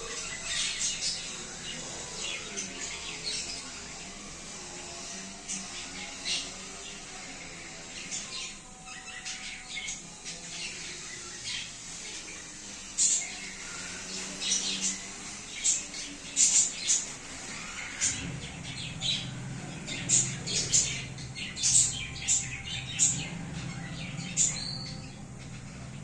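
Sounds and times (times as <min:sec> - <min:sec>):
budgerigars chirping and squawking: 0:00.0 - 0:26.0.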